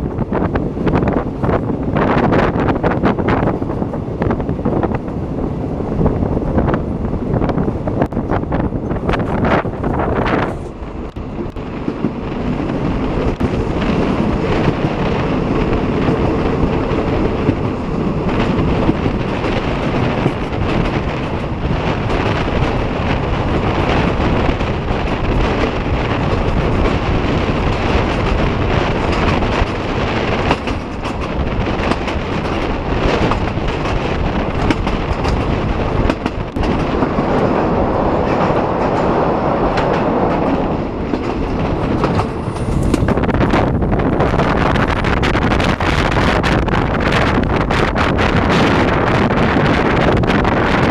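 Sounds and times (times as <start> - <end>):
train rumble: 0.0 - 50.9
train wheels clacking: 7.4 - 50.9.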